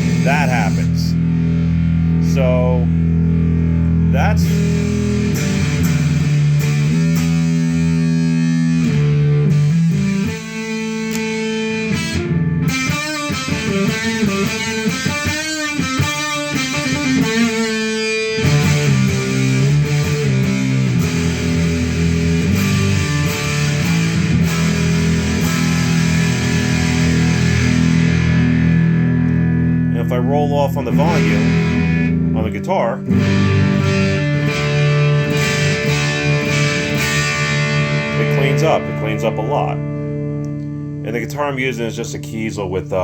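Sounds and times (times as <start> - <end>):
fuzzy distorted electric guitar: 0.0 - 43.0.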